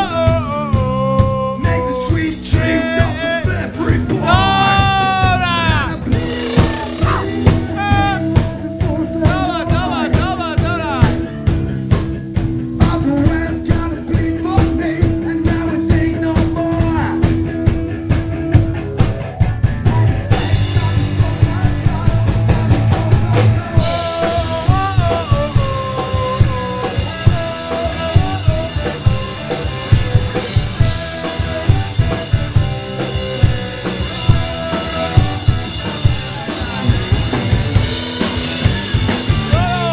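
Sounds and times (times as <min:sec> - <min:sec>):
bending guitar notes: 0:00.0 - 0:39.9
live rock band playing: 0:00.0 - 0:39.9.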